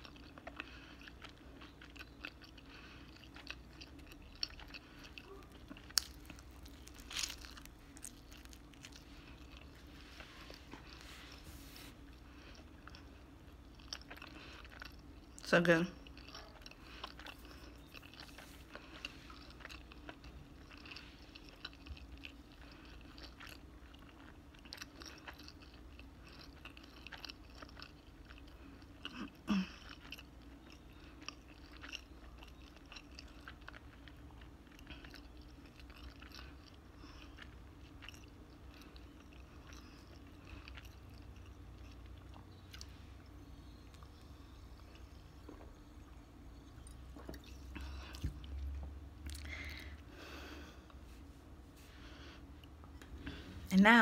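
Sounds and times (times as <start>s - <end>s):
person chewing pizza: 0.0s - 54.0s.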